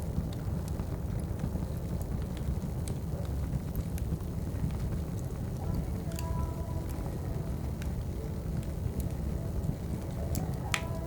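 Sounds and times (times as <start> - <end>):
wood fire crackling: 0.0 - 11.0
cafe background noise: 0.1 - 11.0.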